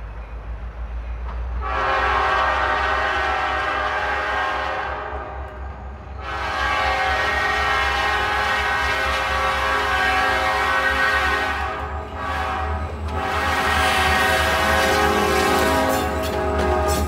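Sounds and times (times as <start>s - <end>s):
locomotive air horn blast: 1.6s - 5.5s, 6.2s - 17.0s.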